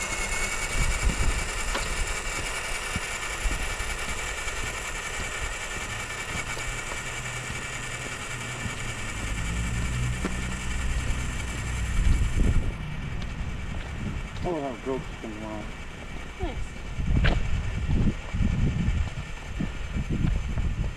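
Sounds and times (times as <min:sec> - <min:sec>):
electric motor and gear whine: 0:00.0 - 0:20.9
low rumble: 0:00.0 - 0:20.9.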